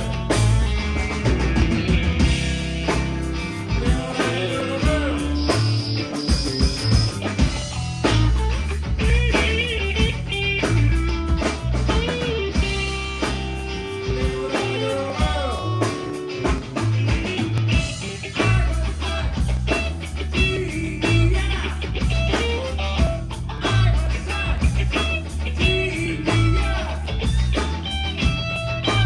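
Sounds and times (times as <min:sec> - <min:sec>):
bass guitar: 0:00.0 - 0:29.0
drum kit: 0:00.0 - 0:29.0
electric guitar lead with bends: 0:00.0 - 0:29.0.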